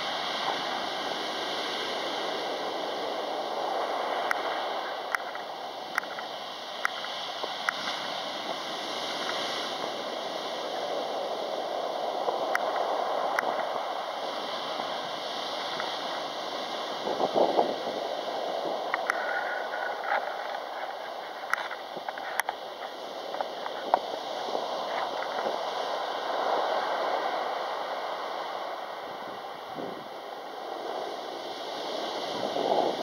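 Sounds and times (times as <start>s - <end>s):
surf washing on pebble beach: 0.0s - 33.0s.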